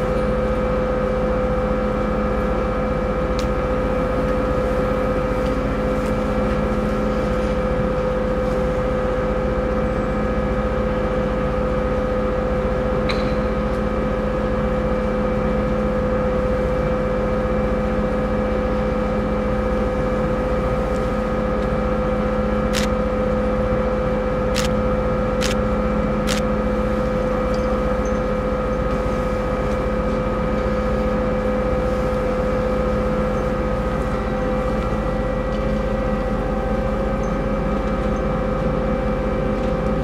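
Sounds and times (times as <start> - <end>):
ship engines droning: 0.0 - 40.0.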